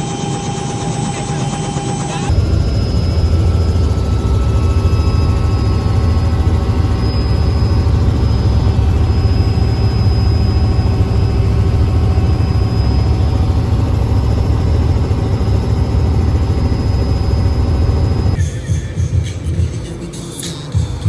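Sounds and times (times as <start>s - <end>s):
helicopter drone: 0.0s - 21.0s
high whine: 0.0s - 21.0s.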